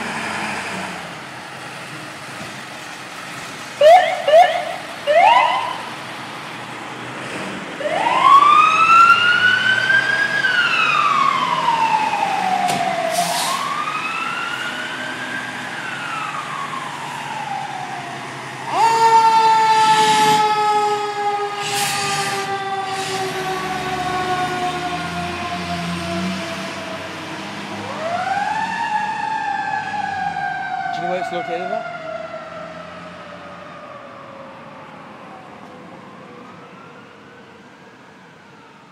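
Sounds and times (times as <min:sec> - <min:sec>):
siren chirps: 0:03.8 - 0:05.9, 0:07.8 - 0:27.1, 0:27.8 - 0:38.9
steady siren tone sinking in pitch: 0:03.8 - 0:05.9, 0:07.8 - 0:27.1, 0:27.8 - 0:38.9
wail siren rising and falling: 0:03.8 - 0:06.0, 0:07.6 - 0:38.9.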